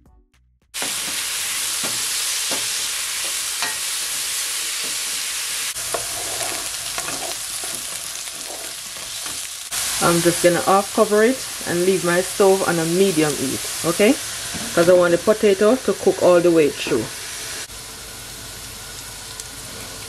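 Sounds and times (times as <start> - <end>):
potatoes sizzling in oil: 0.8 - 20.0.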